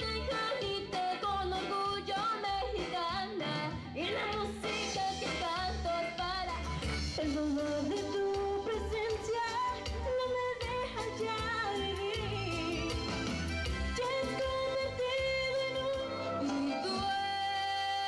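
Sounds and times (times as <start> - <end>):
woman singing through a microphone: 0.0 - 13.3, 13.9 - 18.0
backing track with bass beat: 0.0 - 18.0.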